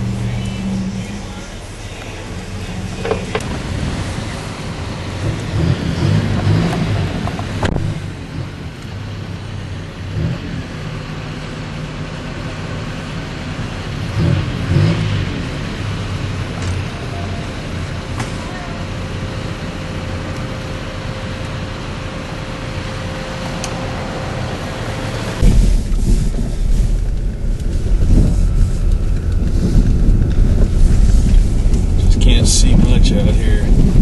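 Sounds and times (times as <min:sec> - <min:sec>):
blizzard wind: 0:00.0 - 0:34.0
vehicle engine hum: 0:00.0 - 0:34.0.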